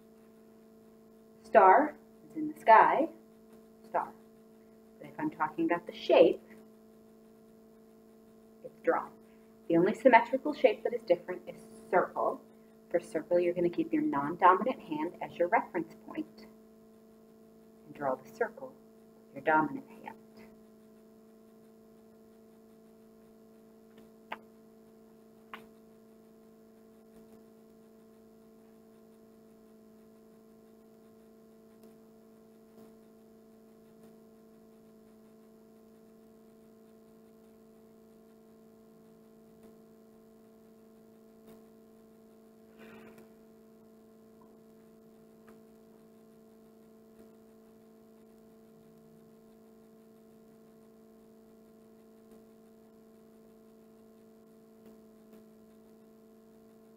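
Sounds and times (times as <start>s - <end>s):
low electrical hum: 0.0s - 56.9s.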